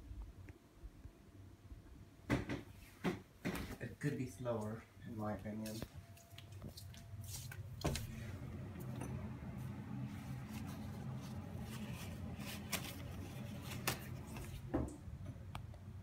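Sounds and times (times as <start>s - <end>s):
ceiling fan motor hum: 0.0s - 16.0s.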